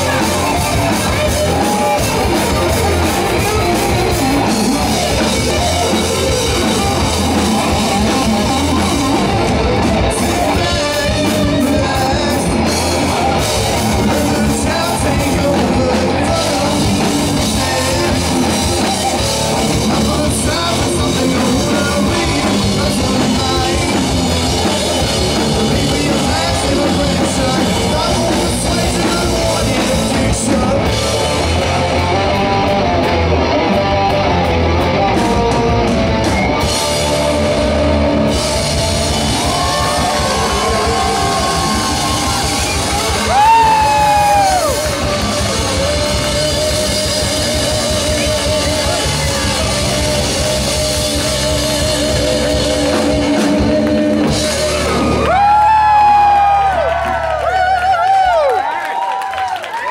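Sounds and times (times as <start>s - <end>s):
drum kit: 0.0s - 59.1s
bass guitar: 0.0s - 59.9s
electric guitars: 0.0s - 59.9s.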